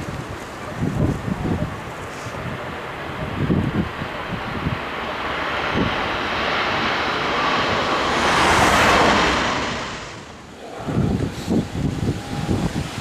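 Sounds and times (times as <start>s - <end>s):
jet airliner passing: 0.0s - 13.0s
wind buffeting microphone: 0.0s - 13.0s.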